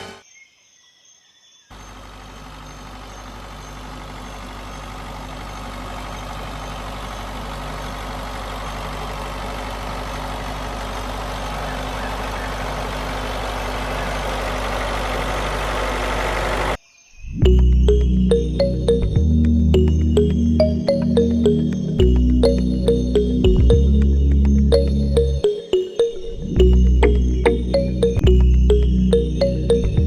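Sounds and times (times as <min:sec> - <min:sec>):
vehicle engine humming: 0:01.7 - 0:16.8, 0:17.5 - 0:30.0.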